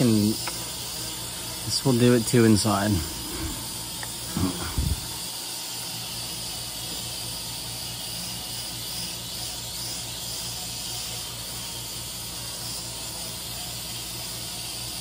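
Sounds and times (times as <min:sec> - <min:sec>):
toy drone propellers whirring: 0:00.0 - 0:15.0.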